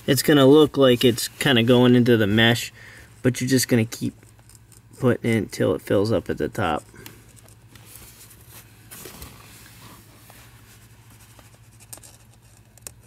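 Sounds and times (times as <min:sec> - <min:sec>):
faint scratching and handling: 0:00.0 - 0:05.4, 0:06.0 - 0:13.0
steady low hum: 0:00.0 - 0:13.0.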